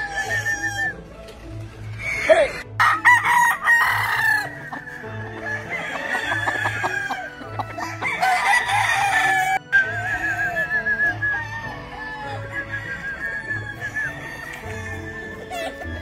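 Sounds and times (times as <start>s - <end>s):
rooster crowing: 0.0s - 1.0s, 2.8s - 16.0s
music beat: 2.8s - 16.0s.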